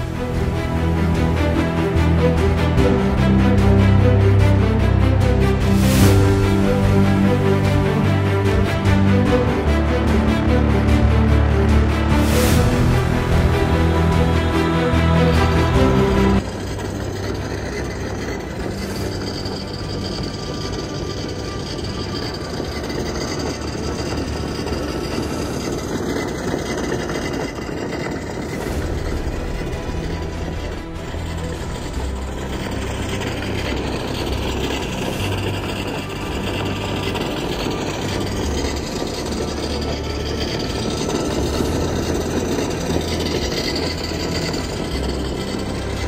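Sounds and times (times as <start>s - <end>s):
axle hub grinding through snow: 0.0s - 46.0s
electric motor gears whirring: 5.6s - 46.0s.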